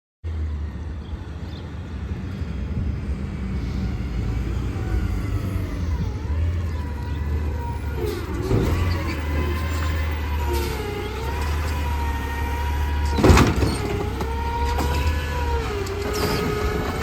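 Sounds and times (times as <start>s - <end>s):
truck engine rumbling: 0.3s - 17.0s.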